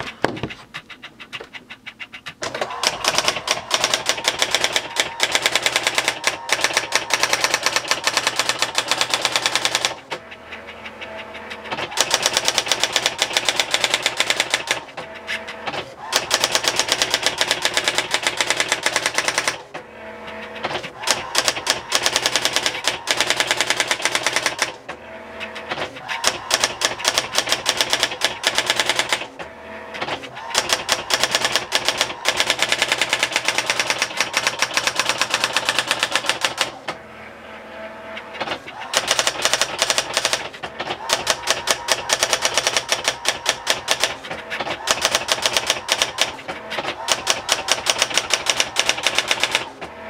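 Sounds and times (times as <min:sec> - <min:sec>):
typewriter hammer clicks: 0:00.0 - 0:10.0, 0:11.6 - 0:15.0, 0:15.7 - 0:19.6, 0:20.6 - 0:24.8, 0:25.7 - 0:29.3, 0:30.0 - 0:36.8, 0:38.4 - 0:49.8
typewriter motor whir: 0:00.0 - 0:37.0, 0:38.2 - 0:49.9.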